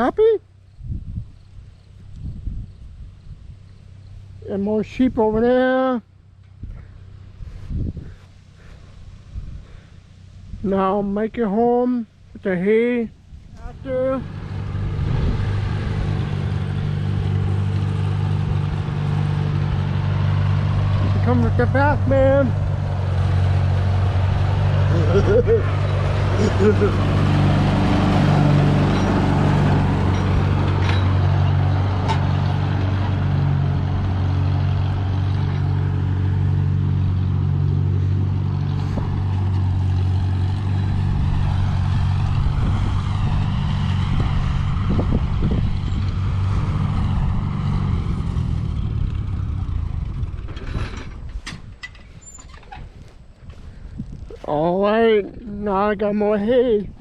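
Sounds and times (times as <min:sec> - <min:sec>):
vehicle engine running: 0:01.4 - 0:57.0.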